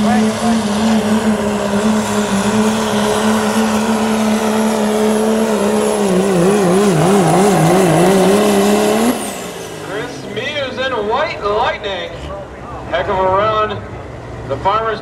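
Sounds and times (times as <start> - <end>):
truck engine droning at high revs: 0.0 - 15.0.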